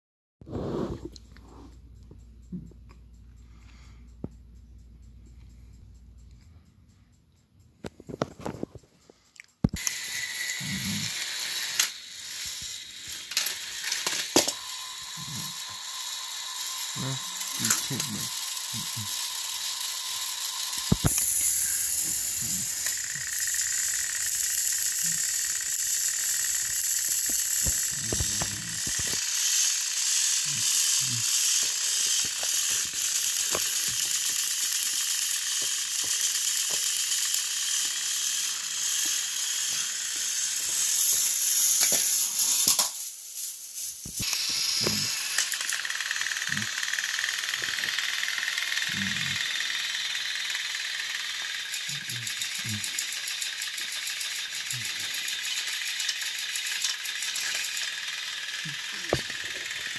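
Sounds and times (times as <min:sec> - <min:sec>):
toy train motors whirring: 0:00.5 - 0:02.7, 0:03.3 - 0:59.9.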